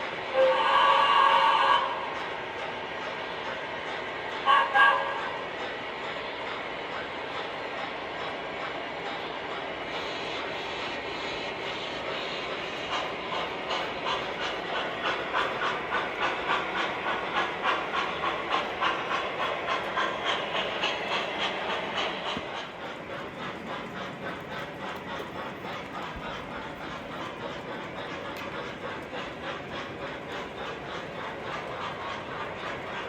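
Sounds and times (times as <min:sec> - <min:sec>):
model steam locomotive chuffing: 0:00.0 - 0:33.0.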